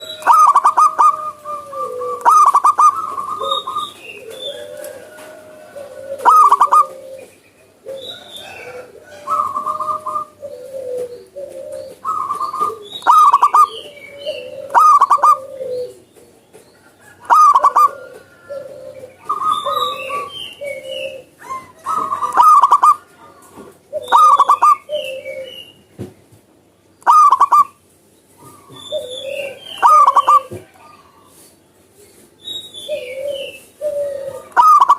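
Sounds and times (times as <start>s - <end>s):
dove cooing: 0.0s - 25.8s, 27.0s - 31.4s, 32.4s - 34.9s.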